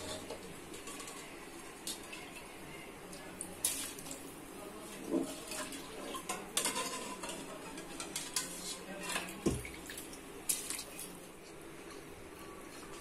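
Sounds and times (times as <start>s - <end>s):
boiling water: 0.0s - 13.0s.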